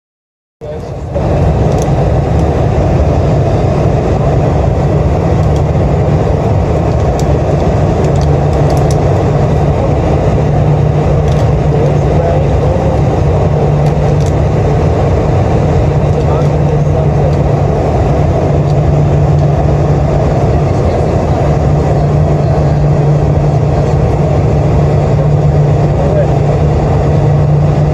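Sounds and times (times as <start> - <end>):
airplane cabin rumble: 0.6 - 27.9.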